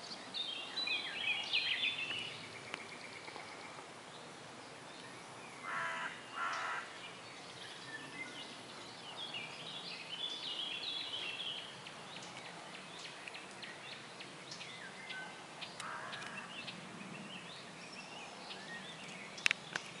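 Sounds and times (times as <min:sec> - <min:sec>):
loud bird calls: 0:00.0 - 0:20.0.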